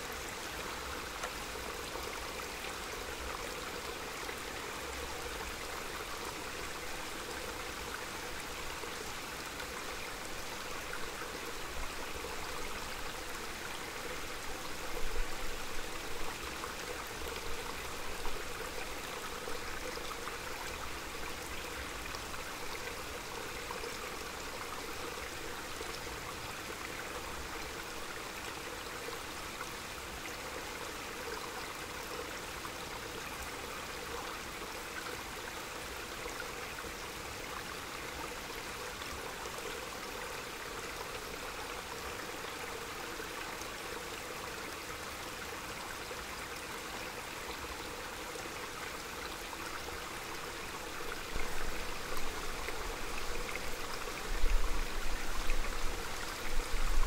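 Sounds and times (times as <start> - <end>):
mountain stream running: 0.0 - 57.0.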